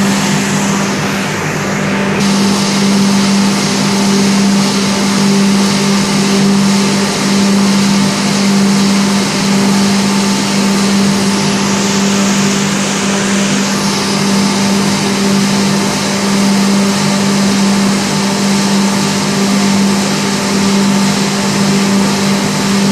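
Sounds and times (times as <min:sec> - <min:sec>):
machine motor hum: 0:00.0 - 0:22.9.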